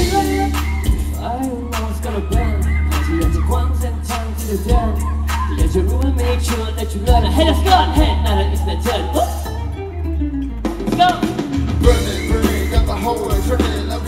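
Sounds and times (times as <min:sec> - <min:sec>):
men singing and rapping: 0:00.0 - 0:09.6, 0:11.8 - 0:14.0
live pop band playing: 0:00.0 - 0:14.0.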